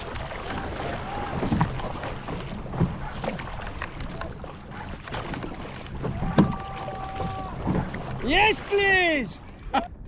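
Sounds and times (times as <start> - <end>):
paddle strokes splashing: 0.0 - 9.7
wind and water wash: 0.0 - 10.0.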